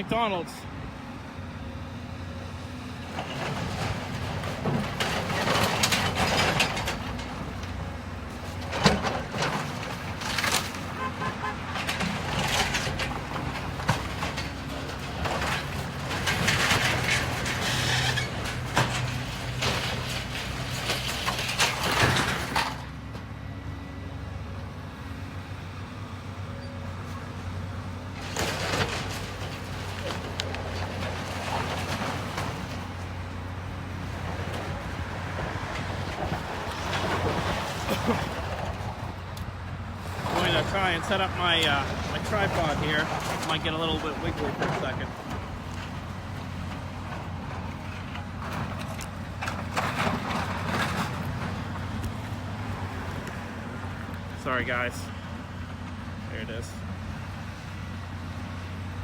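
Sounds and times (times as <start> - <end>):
demolition machine engine running: 0.0 - 59.0
debris crashing and crunching: 3.0 - 23.0, 27.8 - 59.0.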